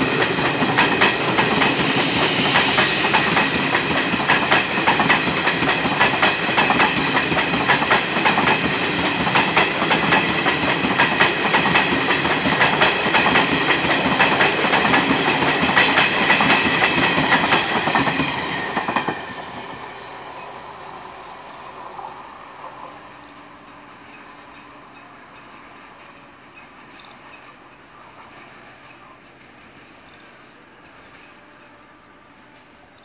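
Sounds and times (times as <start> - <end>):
train wheels clacking over rail joints: 0.0 - 19.8, 22.6 - 33.0.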